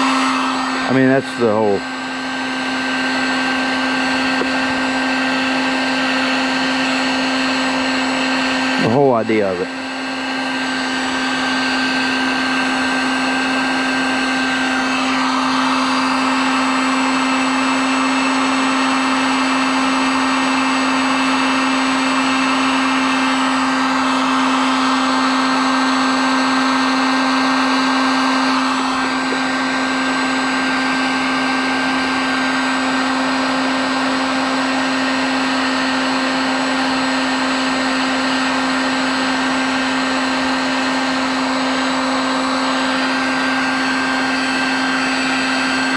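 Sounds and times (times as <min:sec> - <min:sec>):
heat gun running: 0:00.0 - 0:45.9.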